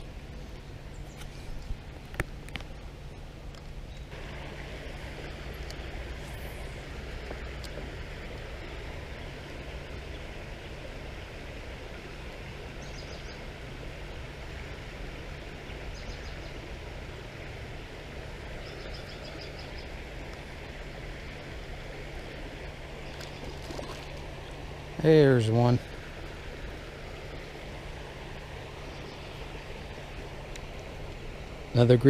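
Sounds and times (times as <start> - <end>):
creek water flowing: 0.0 - 32.0.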